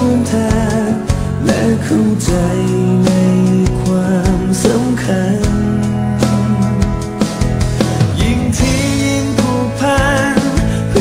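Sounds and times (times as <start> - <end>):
pop song with steady beat: 0.0 - 11.0.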